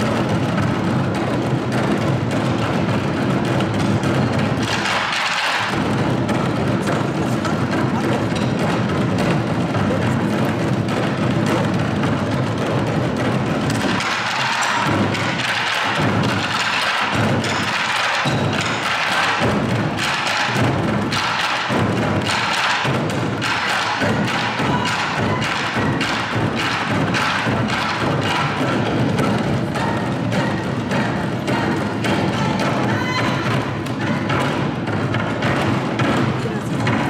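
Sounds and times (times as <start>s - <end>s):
barrel drums beating: 0.0s - 37.0s.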